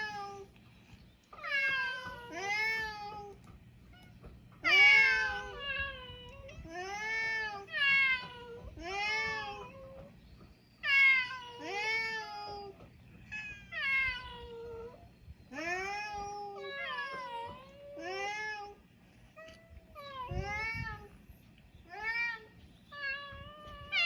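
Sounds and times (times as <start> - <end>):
cats meowing: 0.0 - 0.6, 1.3 - 10.2, 10.8 - 24.0.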